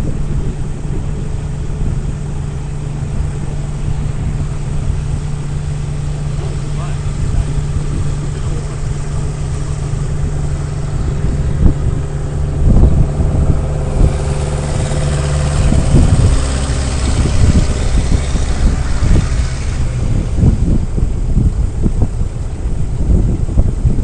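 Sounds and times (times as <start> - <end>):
off-road vehicle engine revving: 0.0 - 23.9.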